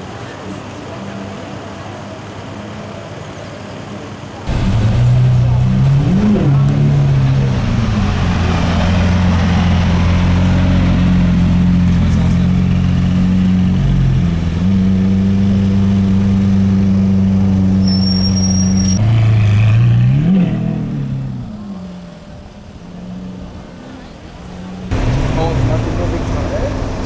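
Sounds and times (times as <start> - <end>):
car engine revving and idling: 4.5 - 27.0.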